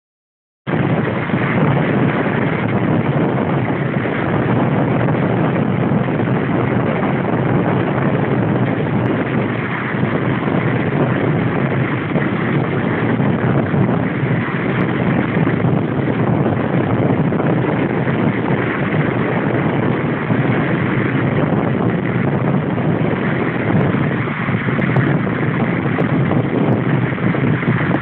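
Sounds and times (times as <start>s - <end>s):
car road noise: 0.7s - 28.0s
wind over microphone: 0.7s - 28.0s.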